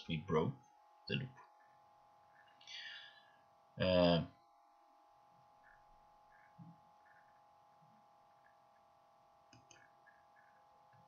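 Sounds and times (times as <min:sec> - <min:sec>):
steady electrical whine: 0:00.0 - 0:11.0.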